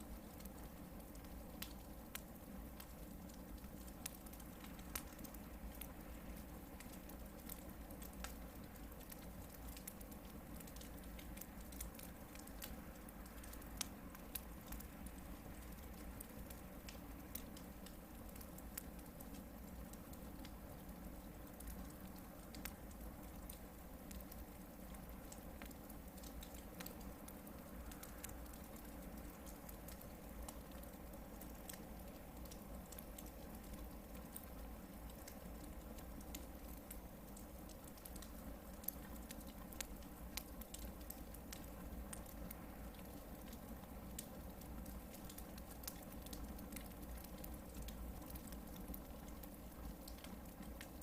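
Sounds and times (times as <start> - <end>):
campfire crackling: 0.0 - 51.0.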